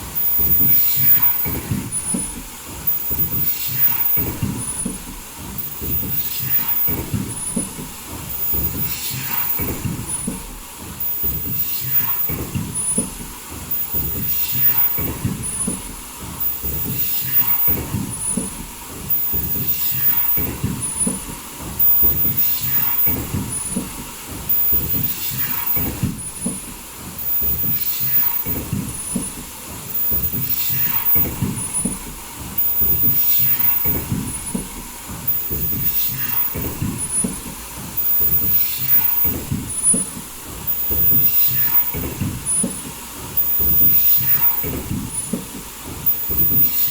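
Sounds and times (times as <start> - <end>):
production line mechanical clatter: 0.0 - 46.9.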